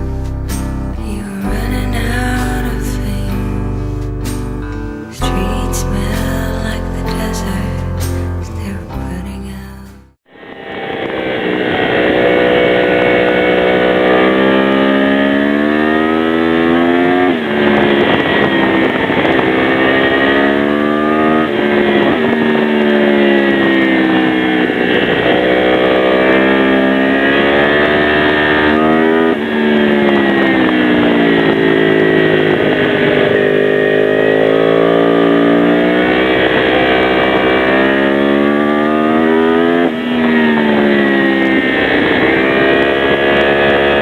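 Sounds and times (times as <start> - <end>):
motorcycle engine revving: 0.0 - 8.4, 10.2 - 44.0.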